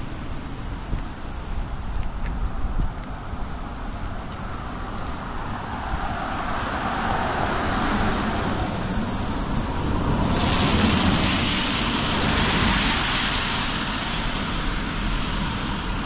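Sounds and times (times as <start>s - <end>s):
low traffic rumble: 0.0s - 16.0s
car tyres hissing on wet road: 2.4s - 16.0s.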